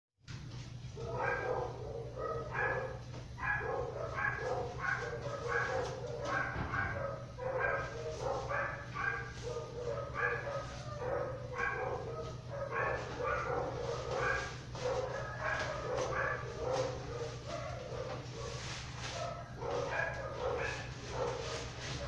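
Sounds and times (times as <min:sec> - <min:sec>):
steady low hum: 0:00.3 - 0:22.0
dog barking and yipping: 0:00.9 - 0:22.0.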